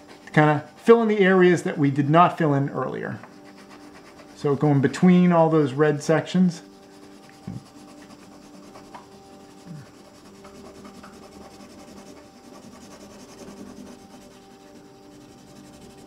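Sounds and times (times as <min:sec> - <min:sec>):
pencil scratching on paper: 0:00.0 - 0:01.0, 0:03.2 - 0:04.8, 0:05.4 - 0:16.0.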